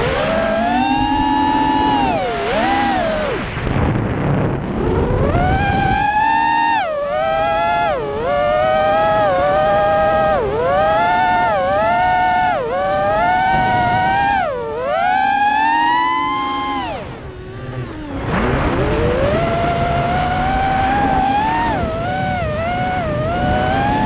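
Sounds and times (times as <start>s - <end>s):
quadcopter motors whining: 0.0s - 24.0s
wind noise: 0.0s - 24.0s.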